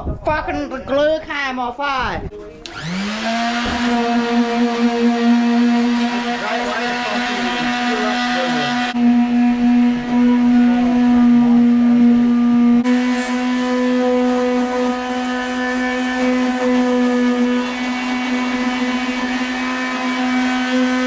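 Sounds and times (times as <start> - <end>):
electric sander running: 2.6 - 21.0.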